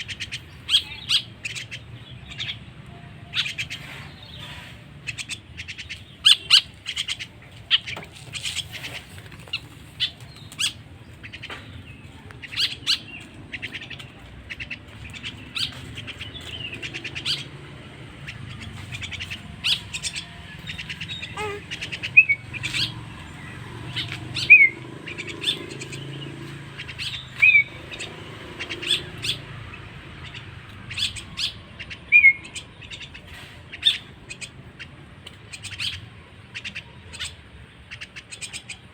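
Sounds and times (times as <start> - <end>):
starling chick chirping: 0.0 - 38.9.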